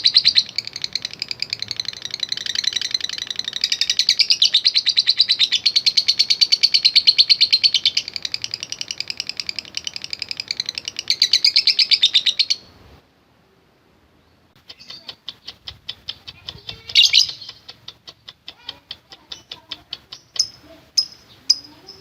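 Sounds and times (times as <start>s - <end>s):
bird chattering trill: 0.0s - 12.7s, 14.6s - 22.0s.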